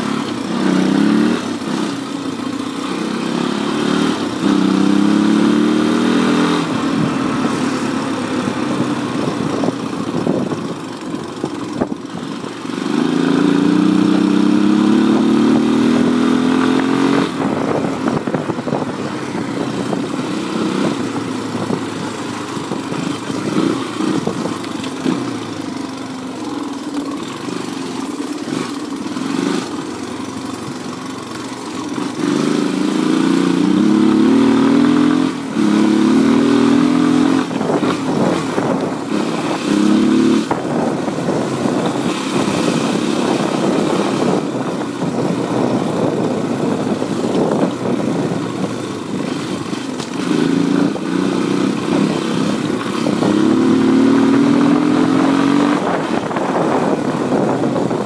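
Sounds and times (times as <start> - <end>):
dirt bike engine accelerating: 0.0 - 58.0.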